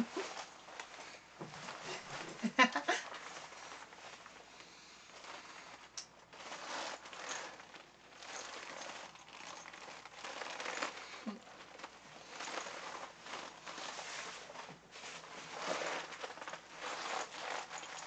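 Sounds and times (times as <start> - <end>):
plastic costume rustling and crinkling: 0.0 - 18.0.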